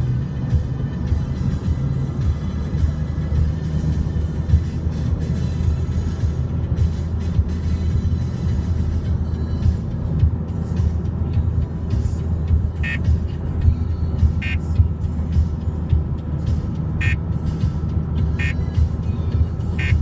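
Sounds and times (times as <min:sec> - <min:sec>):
motor vehicle rumble: 0:00.0 - 0:20.0
music playing: 0:00.0 - 0:20.0.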